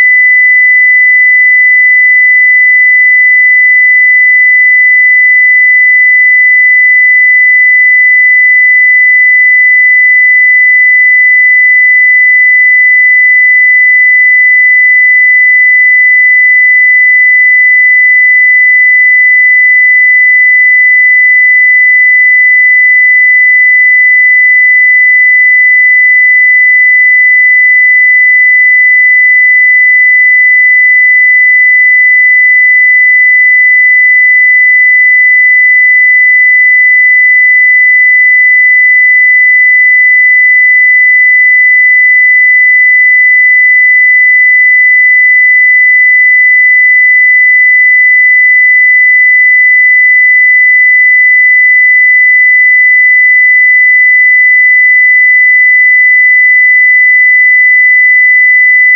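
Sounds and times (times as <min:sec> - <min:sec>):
sine-wave test tone: 0:00.0 - 0:58.9.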